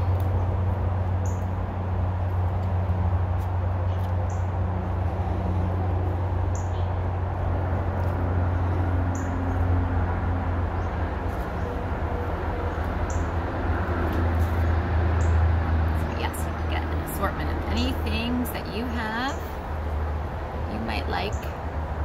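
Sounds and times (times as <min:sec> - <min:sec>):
low outdoor hum: 0:00.0 - 0:22.0.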